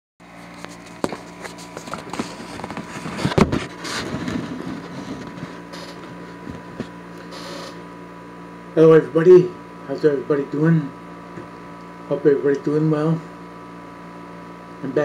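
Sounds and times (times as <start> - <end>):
faint electrical hum: 0.2 - 15.0.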